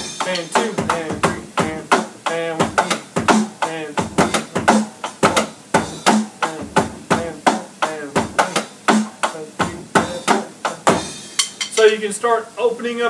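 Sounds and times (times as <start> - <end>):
electronic drum kit groove: 0.0 - 12.0.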